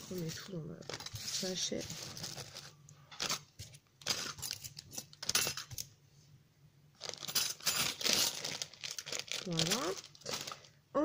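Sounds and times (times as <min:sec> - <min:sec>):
plastic bag crinkling: 0:00.0 - 0:05.8, 0:07.0 - 0:10.8.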